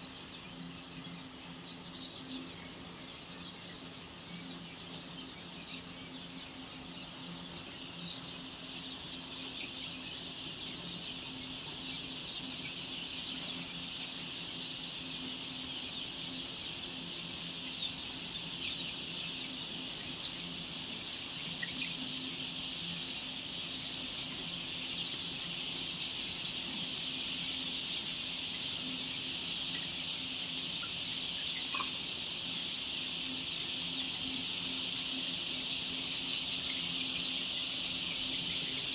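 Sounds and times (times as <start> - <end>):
chicks peeping: 0.0 - 38.9
faint high chirping: 0.0 - 38.9.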